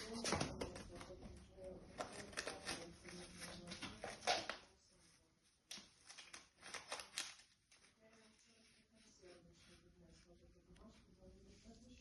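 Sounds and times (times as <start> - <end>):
paper ball crinkling: 0.0 - 9.8.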